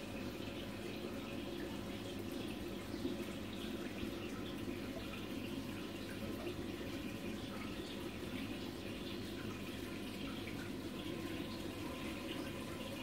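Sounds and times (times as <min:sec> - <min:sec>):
aquarium water trickling and splashing: 0:00.0 - 0:13.0
low steady hum: 0:00.0 - 0:13.0.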